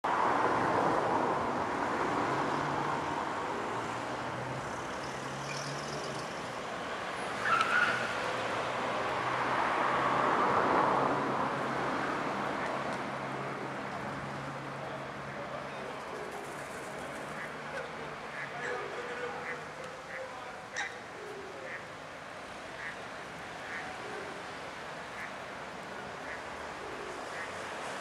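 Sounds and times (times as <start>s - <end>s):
passing cars: 0.1s - 28.0s.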